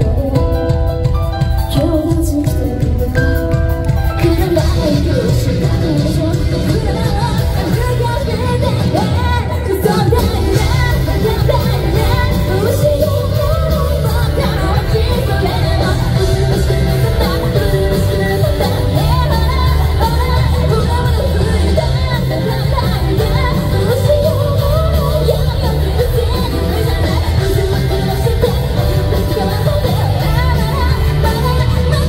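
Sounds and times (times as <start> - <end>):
bass guitar: 0.0 - 32.0
drums: 0.0 - 32.0
electric guitar: 0.0 - 32.0
woman singing: 0.0 - 32.0.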